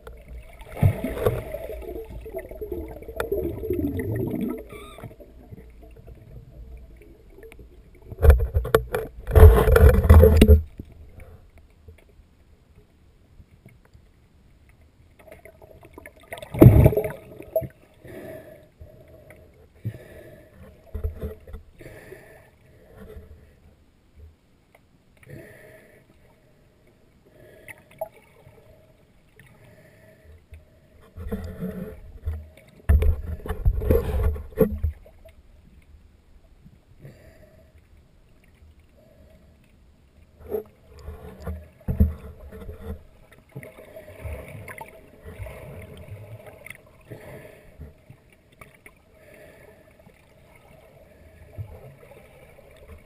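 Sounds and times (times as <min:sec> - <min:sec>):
muffled underwater water sloshing: 0:00.0 - 0:53.0.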